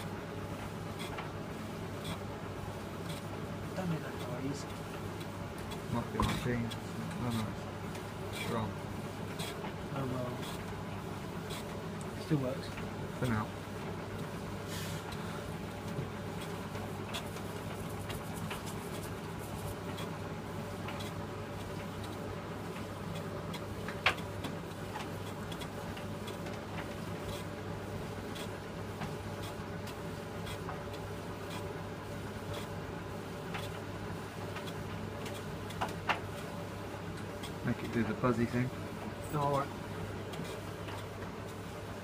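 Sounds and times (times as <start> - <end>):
tumble dryer motor hum: 0.0 - 42.0.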